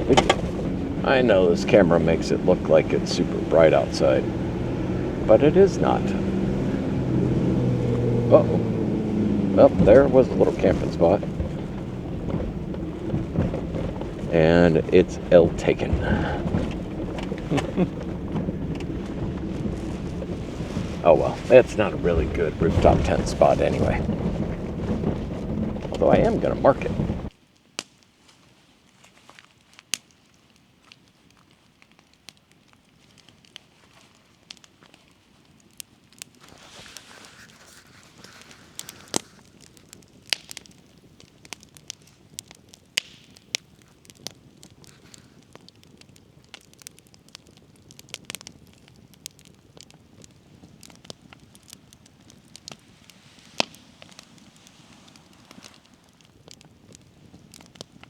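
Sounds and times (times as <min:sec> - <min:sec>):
faint clicks and crackles: 0:00.0 - 0:58.0.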